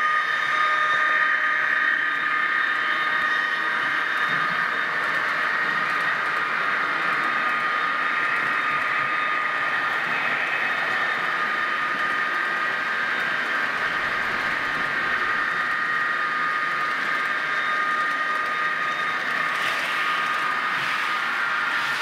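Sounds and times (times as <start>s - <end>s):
model train motor whine: 0.0s - 22.0s
wheels rolling on rails: 2.7s - 22.0s.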